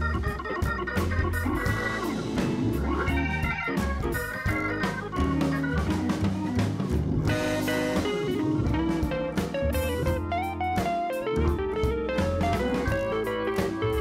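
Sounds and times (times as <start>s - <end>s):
guitar music over a steady beat: 0.0s - 14.0s.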